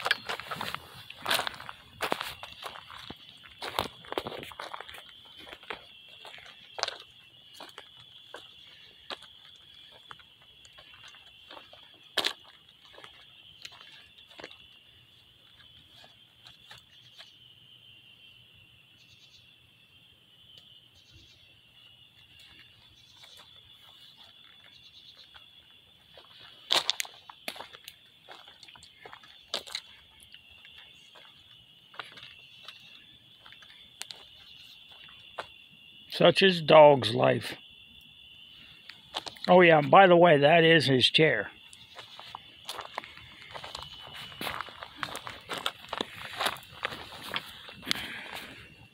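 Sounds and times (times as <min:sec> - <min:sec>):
footsteps on gravel: 0:00.0 - 0:17.3, 0:22.2 - 0:35.6, 0:38.8 - 0:40.6, 0:41.5 - 0:48.9
high-pitched insect chorus: 0:00.0 - 0:48.9.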